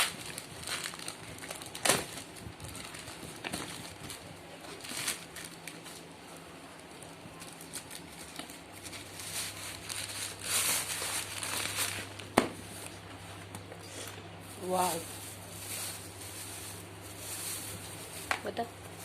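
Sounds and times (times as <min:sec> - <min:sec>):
packaging rustling and crinkling: 0:00.0 - 0:13.6, 0:14.4 - 0:19.0
steady low hum: 0:00.0 - 0:19.0.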